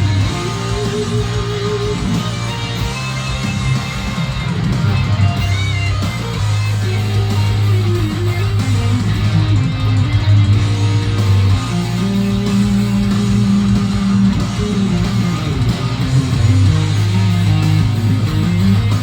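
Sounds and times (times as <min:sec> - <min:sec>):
electric guitar melodic lead: 0:00.0 - 0:19.0
held low bass notes: 0:00.0 - 0:19.0.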